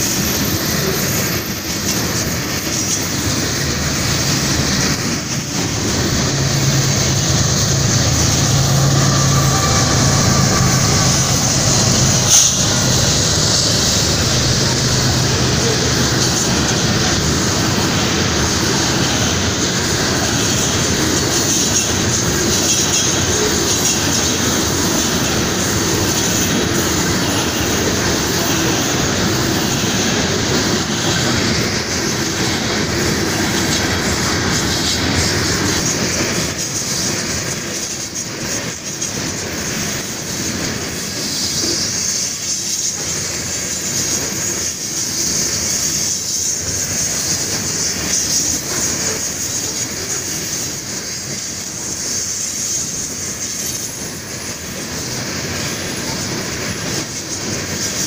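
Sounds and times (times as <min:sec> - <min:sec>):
freight train wheels rumbling: 0:00.0 - 0:58.0
high wheel squeal: 0:00.0 - 0:58.0.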